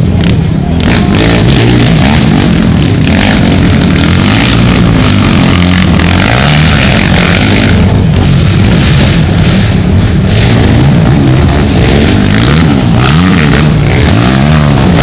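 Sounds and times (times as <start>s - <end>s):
atv engines revving: 0.0s - 15.0s.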